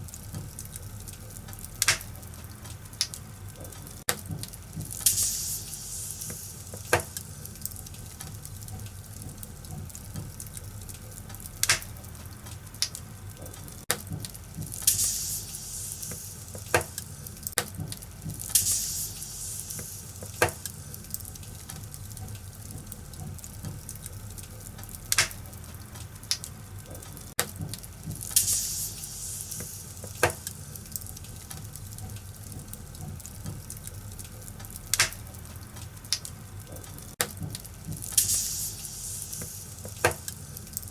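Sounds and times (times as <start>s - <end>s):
fire hissing flares: 0.0s - 40.9s
low fire rumble: 0.0s - 40.9s
wood fire crackling: 0.0s - 40.9s.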